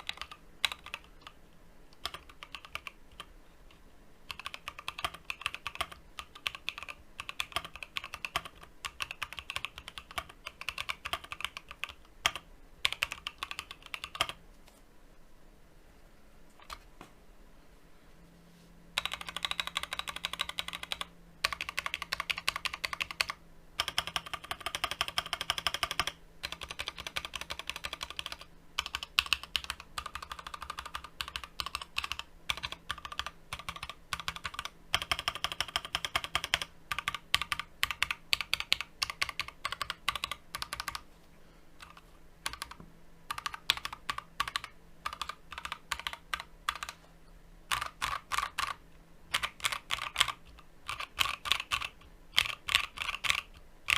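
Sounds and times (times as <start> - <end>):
fast mechanical keyboard typing: 0.0 - 1.4, 2.0 - 3.3, 4.3 - 14.4, 19.0 - 41.0, 41.8 - 47.0, 47.7 - 53.9.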